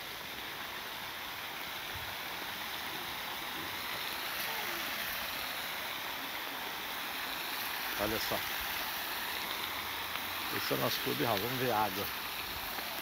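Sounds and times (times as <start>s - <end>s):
fountain jets splashing: 0.0s - 13.0s.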